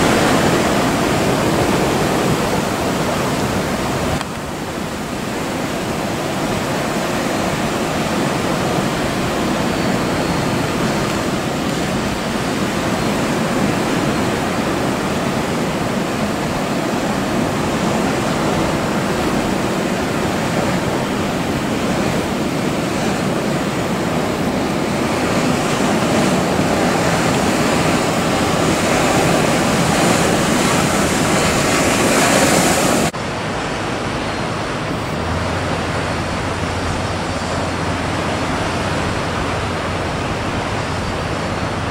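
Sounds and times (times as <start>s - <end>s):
rough sea and breaking surf: 0.0s - 41.9s
wind on microphone: 0.0s - 41.9s.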